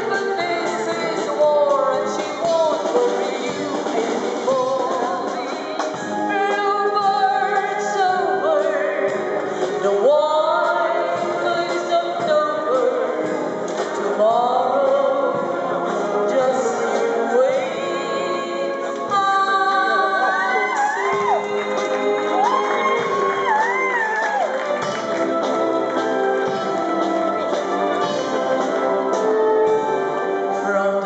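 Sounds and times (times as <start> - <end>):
song with instrumental accompaniment: 0.0 - 31.0.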